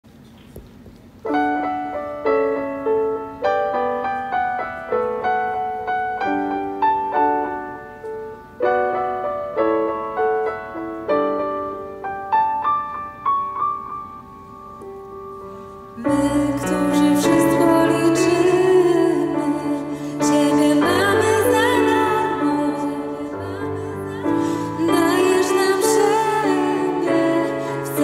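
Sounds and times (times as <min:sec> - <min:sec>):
piano playing chords: 0:01.2 - 0:28.0.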